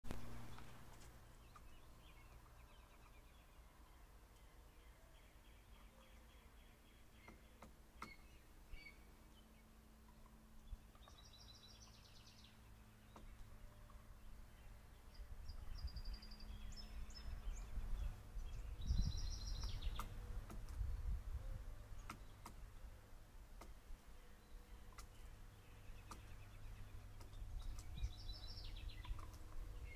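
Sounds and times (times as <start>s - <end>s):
faint songbird calls: 0.1s - 29.9s.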